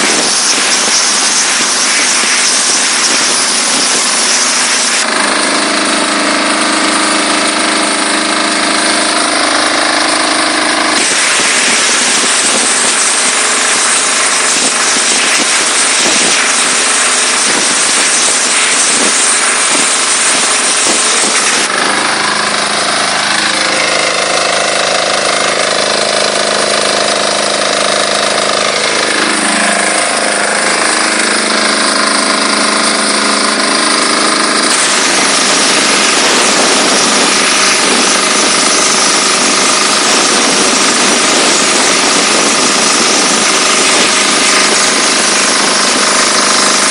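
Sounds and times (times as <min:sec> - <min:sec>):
diesel engine hum: 0:00.0 - 0:46.9
pressure washer rushing: 0:00.0 - 0:46.9.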